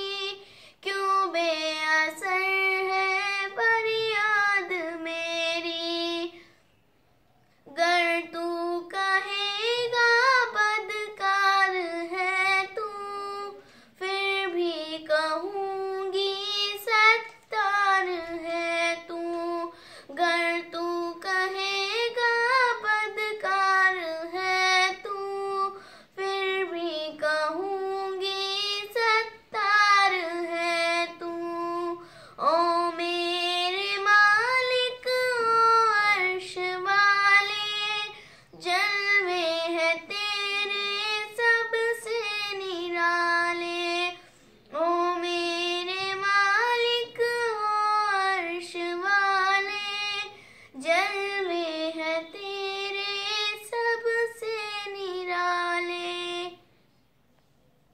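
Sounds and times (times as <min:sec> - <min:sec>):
girl singing: 0:00.0 - 0:06.8, 0:07.4 - 0:56.8.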